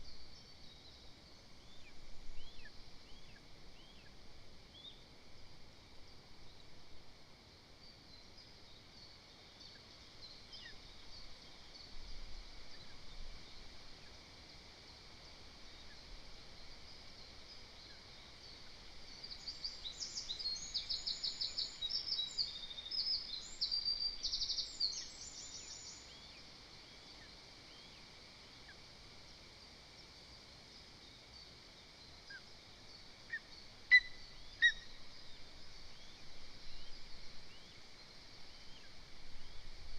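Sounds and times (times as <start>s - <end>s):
songbirds singing: 0.0s - 39.9s
steady hiss: 0.0s - 39.9s.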